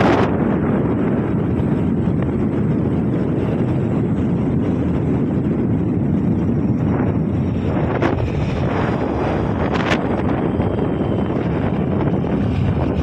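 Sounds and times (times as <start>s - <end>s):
road and engine noise: 0.0s - 13.0s
wind buffeting microphone: 0.0s - 13.0s.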